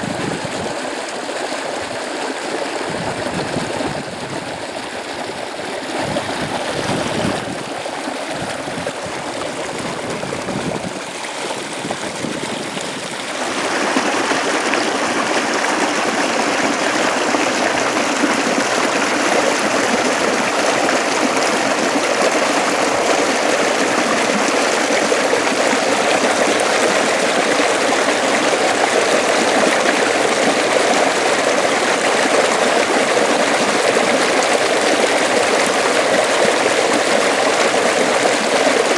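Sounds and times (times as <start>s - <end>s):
water rushing in a ditch: 0.0s - 38.9s.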